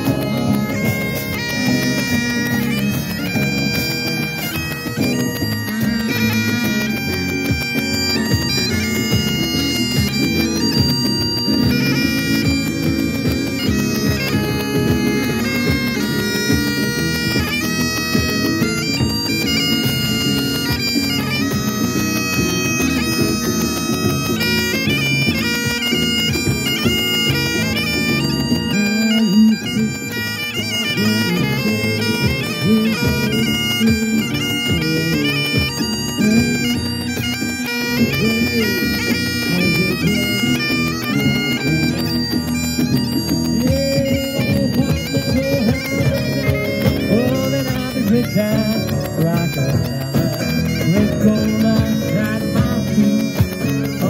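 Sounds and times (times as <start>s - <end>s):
bagpipes playing a tune: 0.0s - 54.0s.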